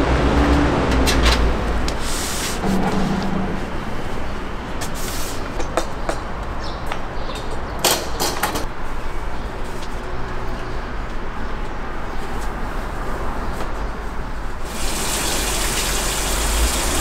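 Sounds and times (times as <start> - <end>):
steady street rumble: 0.0 - 17.0.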